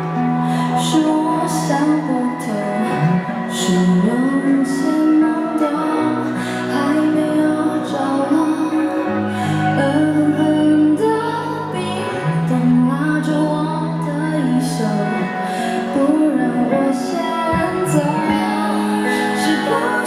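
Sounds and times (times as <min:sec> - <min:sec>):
woman singing a ballad: 0:00.0 - 0:20.0.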